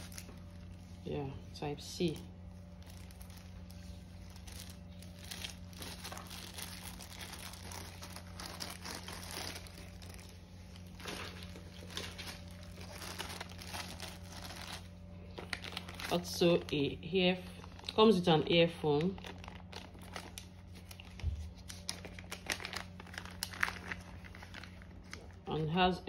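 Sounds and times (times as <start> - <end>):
plastic bags crinkling: 0.0 - 25.8
steady low hum: 0.0 - 26.0.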